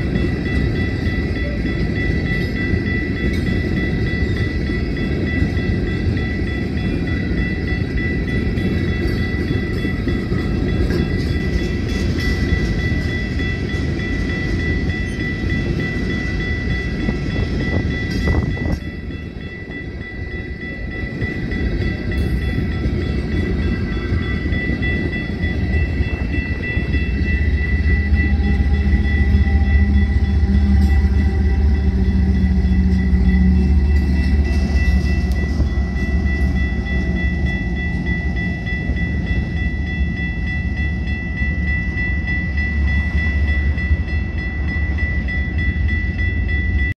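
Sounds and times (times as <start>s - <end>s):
crossing warning bell ringing: 0.0s - 46.9s
diesel locomotive passing: 0.0s - 46.9s
freight train rumbling: 0.0s - 46.9s.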